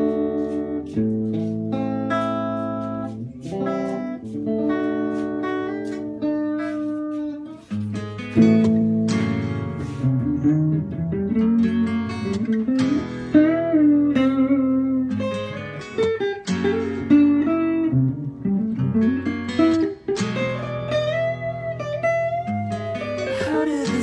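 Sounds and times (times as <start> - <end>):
guitar playing slow melodic lead: 0.0 - 24.0.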